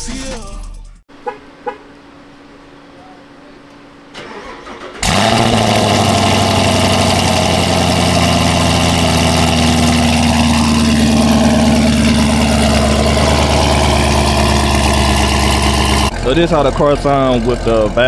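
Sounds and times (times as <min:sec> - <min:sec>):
car engine starting and idling: 0:01.1 - 0:18.0.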